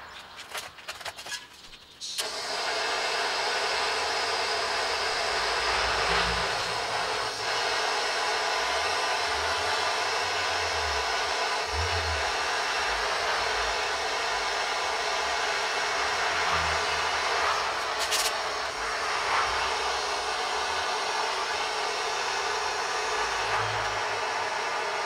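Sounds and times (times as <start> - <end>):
forge hissing: 0.0 - 25.0.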